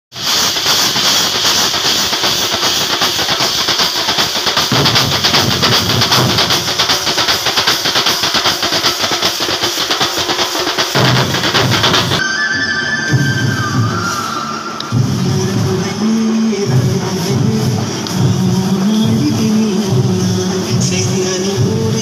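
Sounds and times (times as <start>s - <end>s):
drums playing fast rolling rhythm: 0.1s - 12.2s, 13.1s - 22.0s
bright metallic wash: 0.2s - 22.0s.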